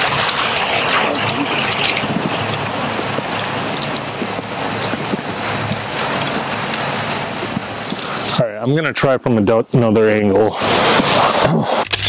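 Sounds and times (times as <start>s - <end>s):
waterfall roaring: 0.0s - 9.4s, 10.4s - 11.8s.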